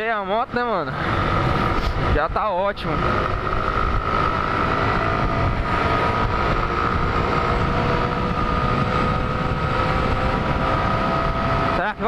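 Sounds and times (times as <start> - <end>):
motorbike engine whine: 0.0 - 12.0
wind rumble on microphone: 1.0 - 12.0.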